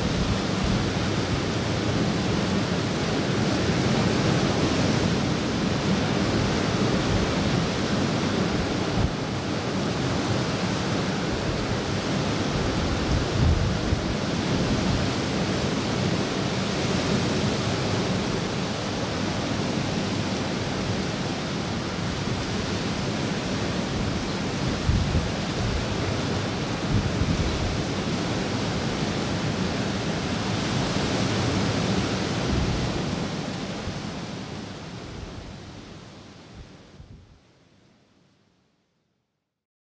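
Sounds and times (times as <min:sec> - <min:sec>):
wind noise: 0:00.0 - 0:35.8, 0:36.5 - 0:37.4.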